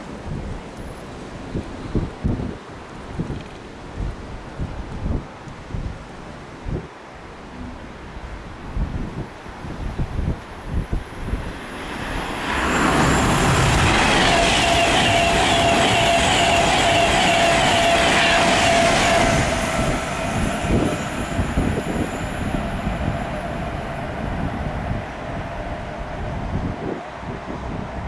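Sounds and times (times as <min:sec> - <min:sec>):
electric train passing at speed: 0:00.0 - 0:05.0, 0:07.4 - 0:28.0.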